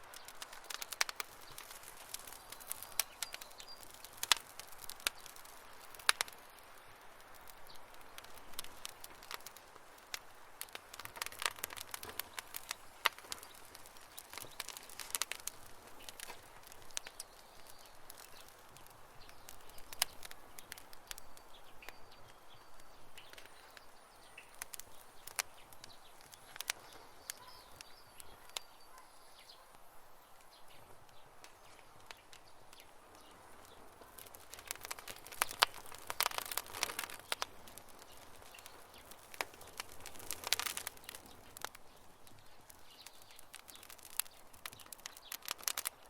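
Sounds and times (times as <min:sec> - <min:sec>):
campfire crackling and popping: 0:00.0 - 0:46.0
soft hiss: 0:00.0 - 0:46.0.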